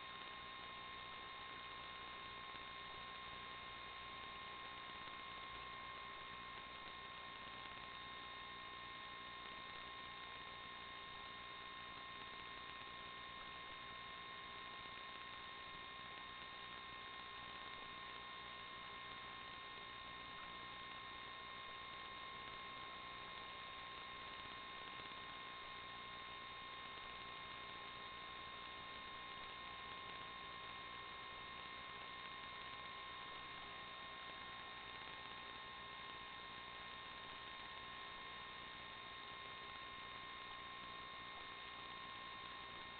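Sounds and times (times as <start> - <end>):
electrical hum and hiss: 0.0 - 42.9.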